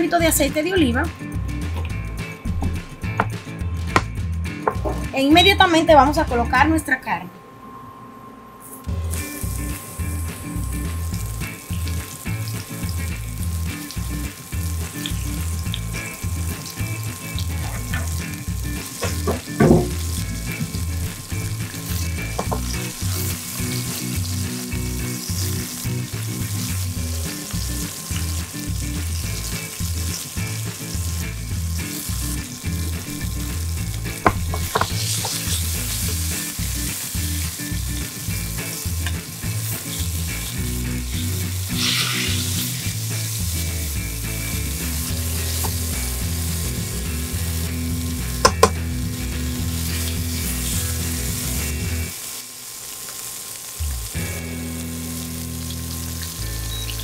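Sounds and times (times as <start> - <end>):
steak sizzling in a frying pan: 8.9 - 57.0.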